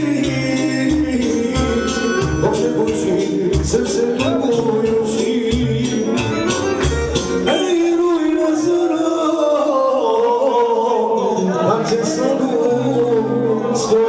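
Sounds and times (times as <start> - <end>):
keyboard party music with beat: 0.0 - 14.0
man singing into microphone: 0.0 - 14.0.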